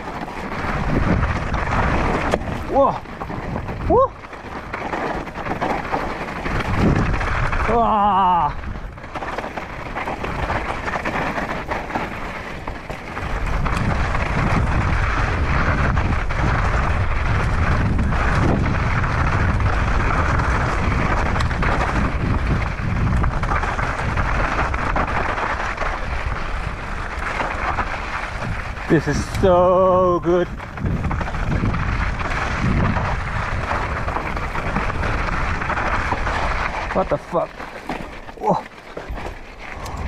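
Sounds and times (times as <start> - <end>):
tyres rattling over gravel: 0.0 - 40.0
wind buffeting microphone: 0.0 - 40.0.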